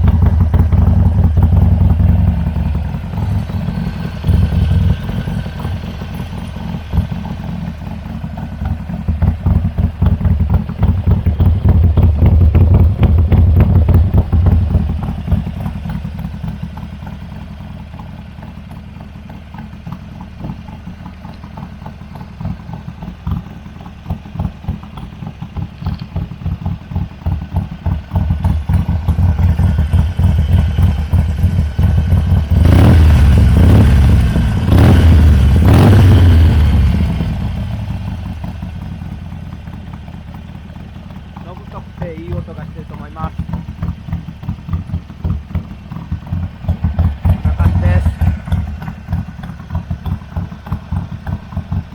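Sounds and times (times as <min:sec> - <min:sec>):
motorcycle engine exhaust: 0:00.0 - 0:51.9.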